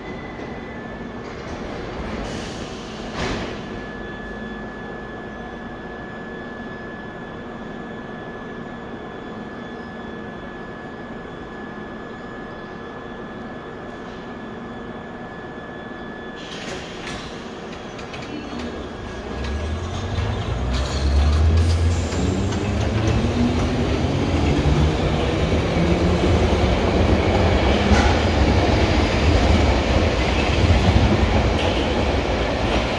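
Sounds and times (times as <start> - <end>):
train high whine: 0.0 - 32.9
train pulling away rumble: 0.0 - 32.9.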